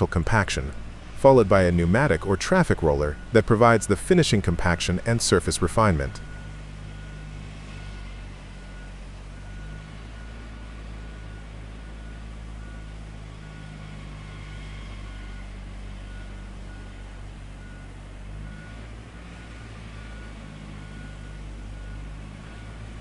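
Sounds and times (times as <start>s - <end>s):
diesel engine of paving machine: 0.0s - 23.0s.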